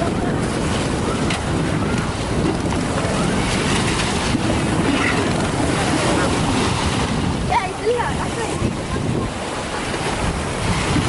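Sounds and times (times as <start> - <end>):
boat engine running: 0.0 - 11.0
sea rushing: 0.0 - 11.0
wind buffeting microphone: 0.0 - 11.0.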